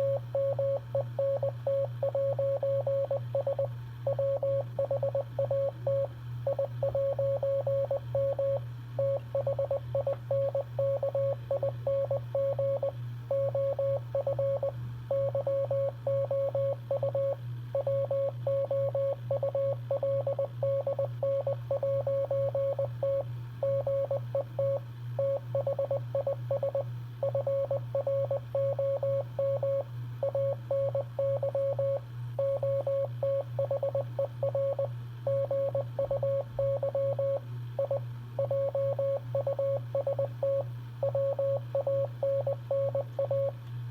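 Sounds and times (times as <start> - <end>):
morse code beeps: 0.0 - 43.5
steady low hum: 0.0 - 43.9.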